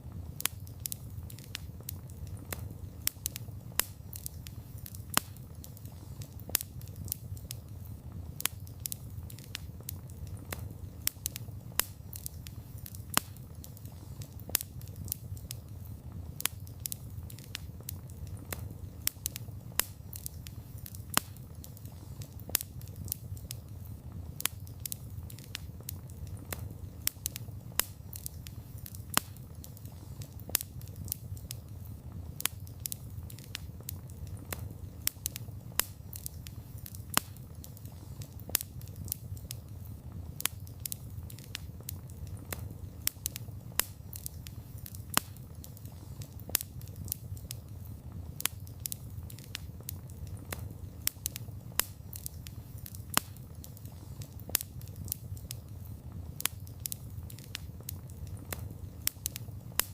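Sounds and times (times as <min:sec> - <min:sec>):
crackling wood fire: 0:00.0 - 0:59.9.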